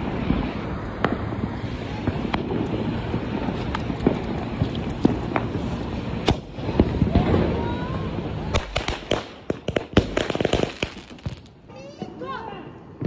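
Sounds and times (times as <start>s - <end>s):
road traffic rumble: 0.0s - 12.2s
firecrackers banging: 0.0s - 12.3s.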